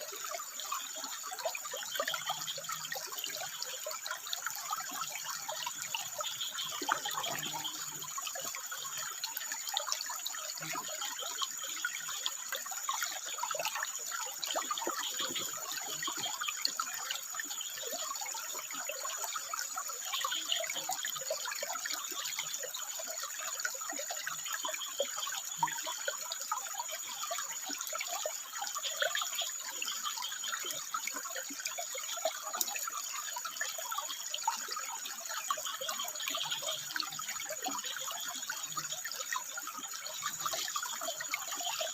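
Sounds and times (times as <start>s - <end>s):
water trickling over rocks: 0.0s - 41.9s.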